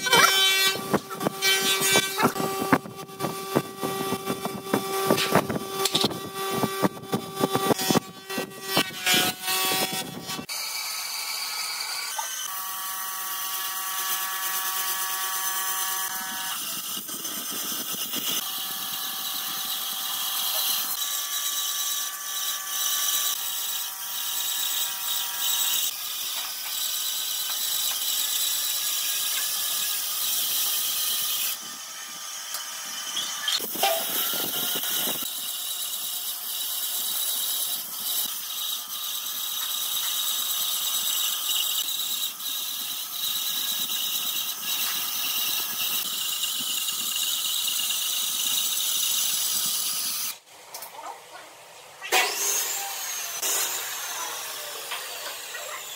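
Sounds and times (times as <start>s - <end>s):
band saw cutting wood: 0.0s - 50.4s, 52.0s - 55.9s.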